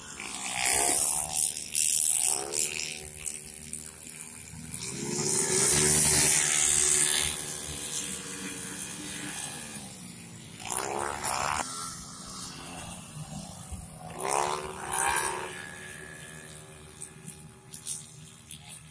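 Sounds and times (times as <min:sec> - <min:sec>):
racing motorcycles passing: 0:00.0 - 0:18.9.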